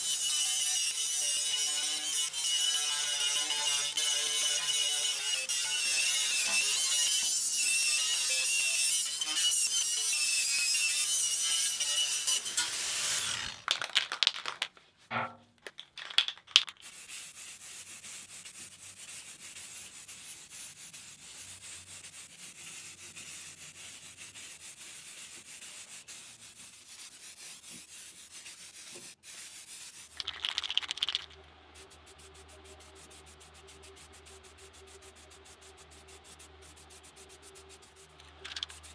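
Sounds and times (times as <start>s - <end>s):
hand sanding on steel: 0.0s - 13.5s, 16.7s - 31.2s, 31.8s - 38.9s.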